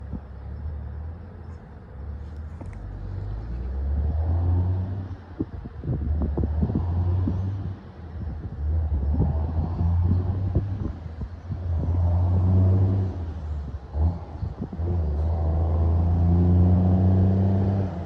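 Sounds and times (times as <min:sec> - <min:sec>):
diesel truck engine rumbling: 0:00.0 - 0:18.0.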